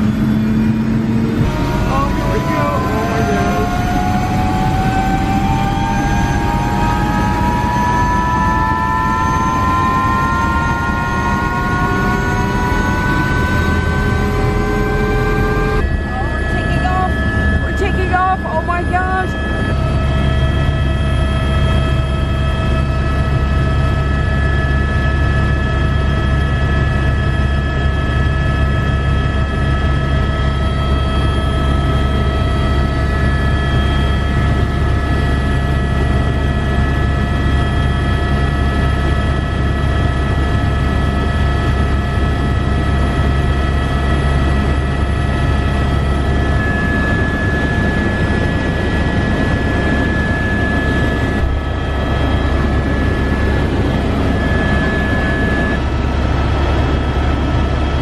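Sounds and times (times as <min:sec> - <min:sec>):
helicopter engine and rotor drone: 0:00.0 - 0:58.0
high whining tones: 0:00.0 - 0:58.0.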